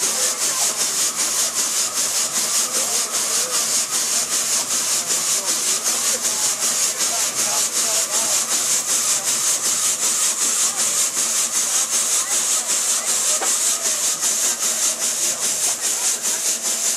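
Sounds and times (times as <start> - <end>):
steam engine hissing rhythm: 0.0 - 16.9.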